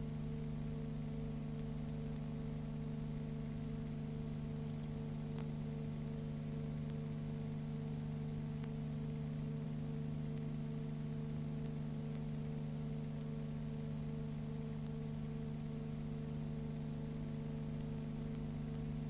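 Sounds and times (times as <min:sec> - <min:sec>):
electrical hum and hiss: 0:00.0 - 0:19.0
faint ticks: 0:00.4 - 0:19.0.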